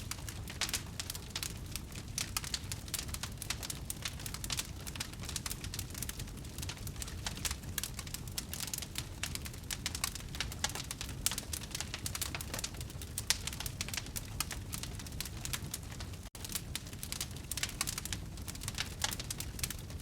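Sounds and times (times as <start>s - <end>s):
low rumble of burning: 0.0s - 20.0s
wood fire crackling and popping: 0.0s - 20.0s.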